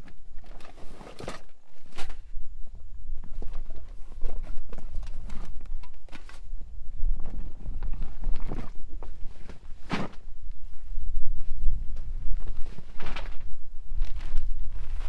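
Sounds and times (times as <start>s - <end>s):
wind rumble on microphone: 2.0s - 15.0s.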